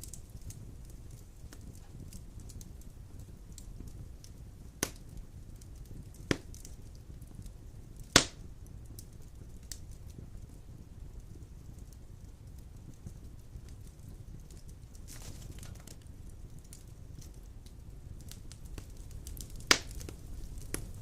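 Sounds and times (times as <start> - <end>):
faint crackling of fire: 0.0 - 21.0
low rumble of flame: 0.0 - 21.0
sharp pops of burning logs: 0.0 - 21.0.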